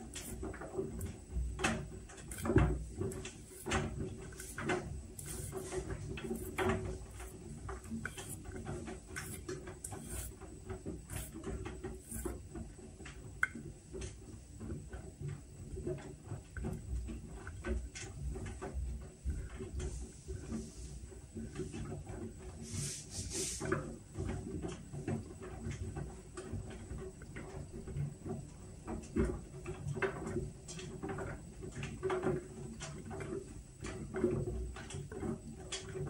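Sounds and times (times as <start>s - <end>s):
washing machine humming: 0.0s - 36.0s.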